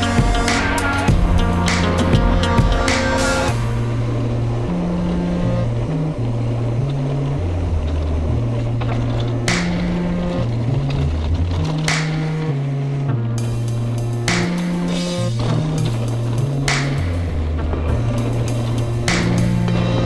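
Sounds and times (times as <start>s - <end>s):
sustained bass line: 0.0s - 20.0s.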